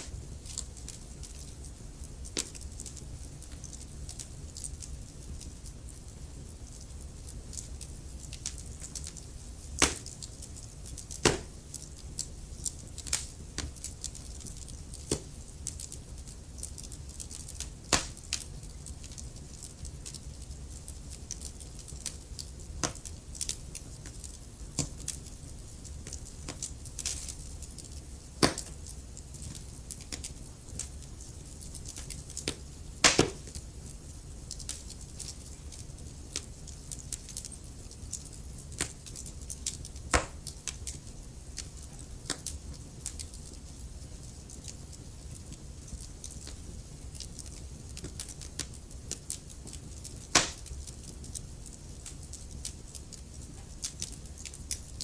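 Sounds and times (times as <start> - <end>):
fire popping: 0.0 - 55.0
logs crackling in fireplace: 0.0 - 55.0.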